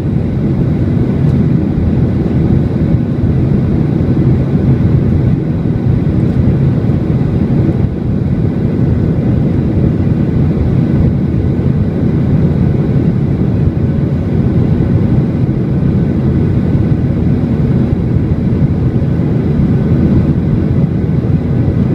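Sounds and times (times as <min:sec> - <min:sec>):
jet engines rumbling: 0:00.0 - 0:21.9
rushing air: 0:00.0 - 0:21.9.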